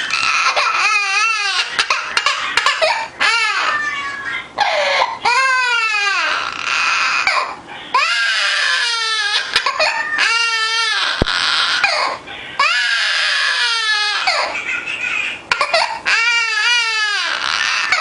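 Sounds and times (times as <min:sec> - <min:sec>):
parrot mimicking crying baby: 0:00.0 - 0:14.6, 0:15.5 - 0:18.0.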